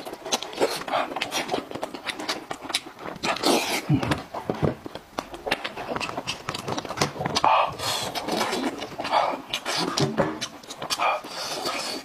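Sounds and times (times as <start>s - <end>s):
wet lip smacks and chewing clicks: 0.0s - 12.0s.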